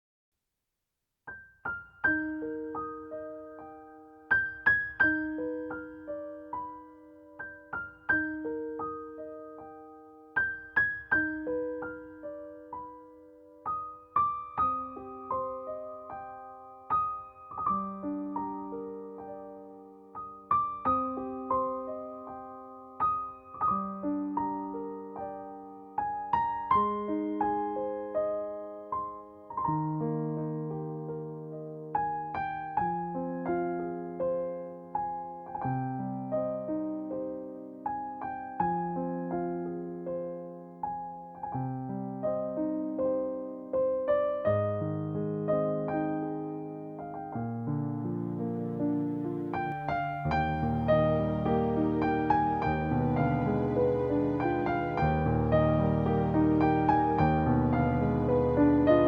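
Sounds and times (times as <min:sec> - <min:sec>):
gentle piano broken chords: 0:01.7 - 0:59.0.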